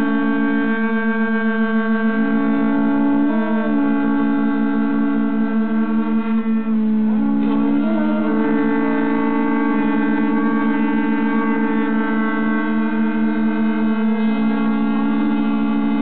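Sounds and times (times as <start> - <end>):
ox horns droning: 0.0 - 16.0.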